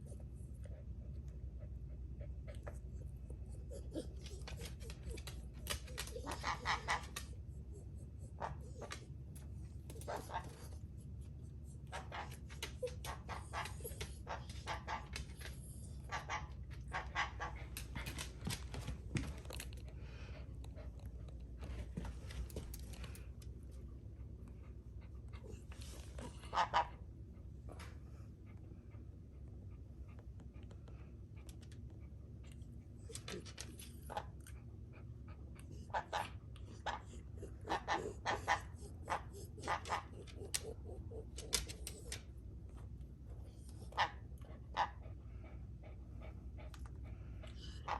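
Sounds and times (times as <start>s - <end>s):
dog panting: 0.0s - 47.9s.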